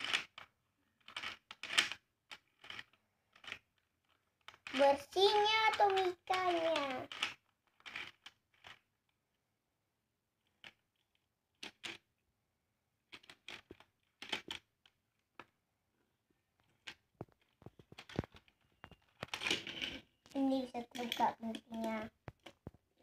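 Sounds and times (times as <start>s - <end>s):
toy car clicking and scraping on plastic: 0.0s - 9.2s, 10.4s - 12.1s, 13.1s - 15.5s, 16.6s - 22.9s.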